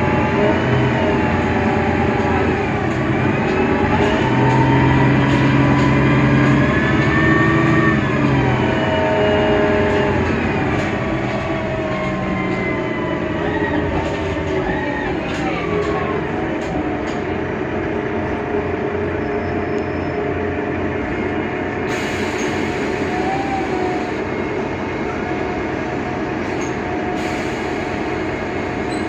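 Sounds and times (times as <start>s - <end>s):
bus diesel engine running: 0.0s - 29.0s
whining drivetrain: 0.0s - 29.0s.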